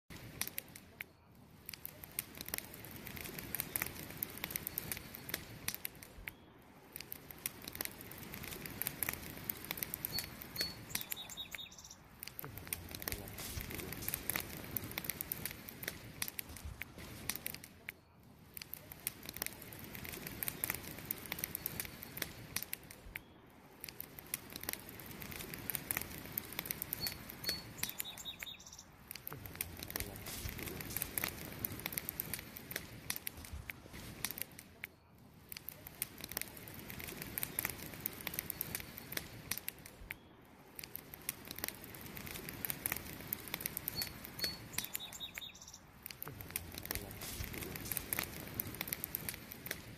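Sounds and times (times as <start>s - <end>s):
campfire crackling and popping: 0.1s - 49.9s
hiss of flames: 0.1s - 49.9s.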